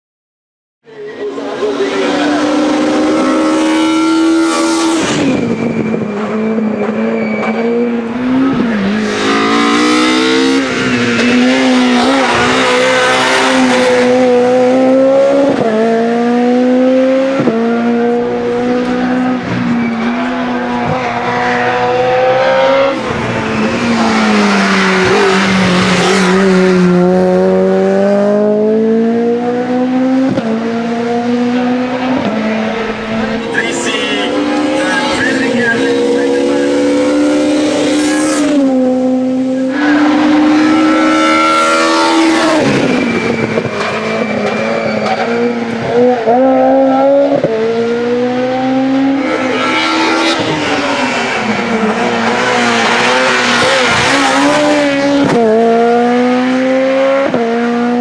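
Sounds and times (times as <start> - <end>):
racing engine at full throttle: 0.9 - 58.0.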